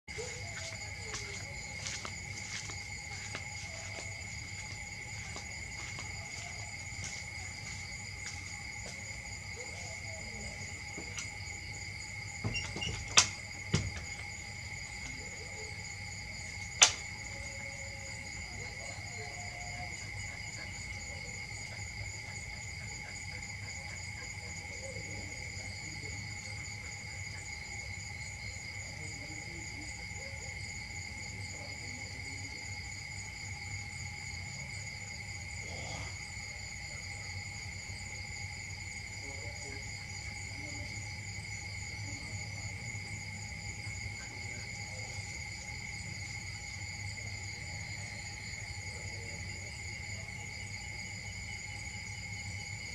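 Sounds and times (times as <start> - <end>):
insects buzzing: 0.1 - 52.9.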